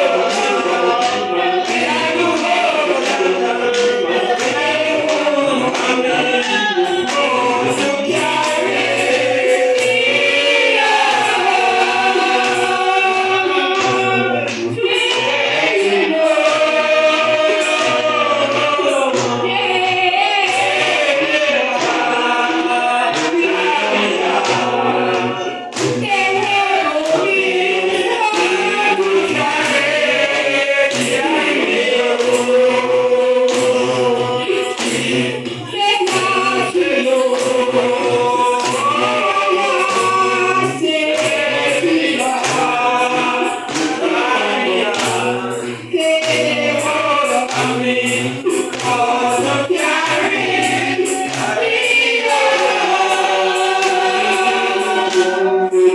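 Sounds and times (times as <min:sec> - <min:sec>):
congregation singing: 0:00.0 - 0:55.9
sharp rhythmic beats: 0:00.0 - 0:55.9.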